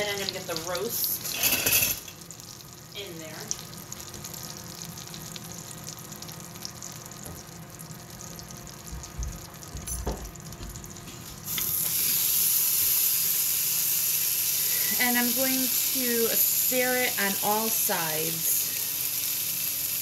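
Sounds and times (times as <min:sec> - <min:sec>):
butter and oil crackling: 0:00.0 - 0:17.5
meat sizzling loudly: 0:00.0 - 0:20.0.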